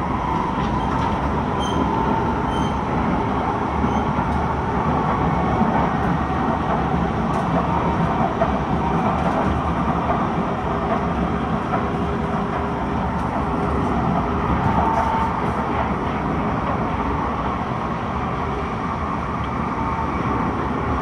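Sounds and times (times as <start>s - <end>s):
metro wheels rumbling on rail: 0.0s - 21.0s.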